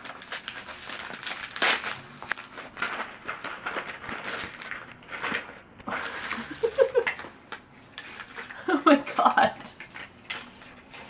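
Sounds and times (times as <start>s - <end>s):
wrapping paper rustling and tearing: 0.0s - 11.0s.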